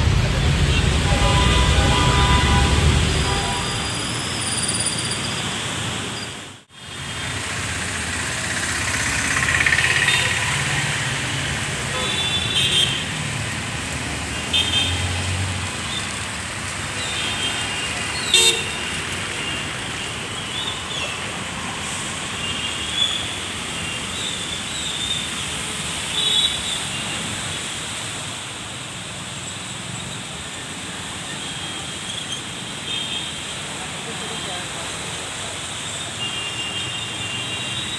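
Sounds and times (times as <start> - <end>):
traffic on wet roads: 0.0 - 37.9.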